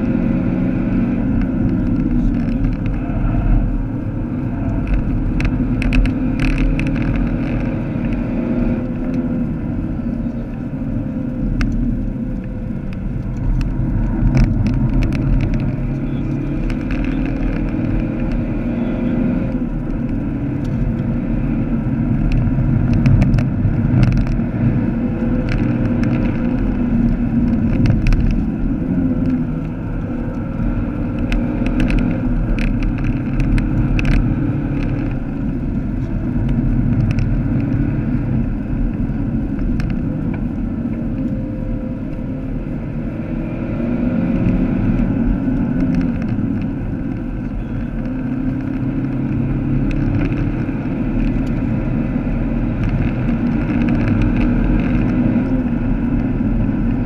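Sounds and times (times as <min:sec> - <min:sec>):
car engine under load: 0:00.0 - 0:57.0
tyre and road noise: 0:00.0 - 0:57.0
sharp clicks and rattles: 0:01.0 - 0:57.0.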